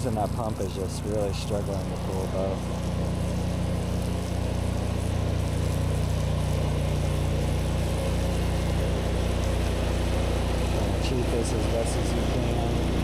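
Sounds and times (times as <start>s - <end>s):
pressure washer pump droning: 0.0s - 13.0s
water spraying hiss: 0.0s - 13.0s.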